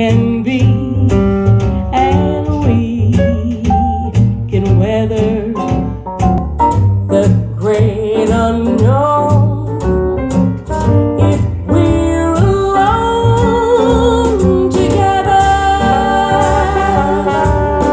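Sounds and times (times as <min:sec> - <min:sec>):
jazz through a loudspeaker: 0:00.0 - 0:17.9.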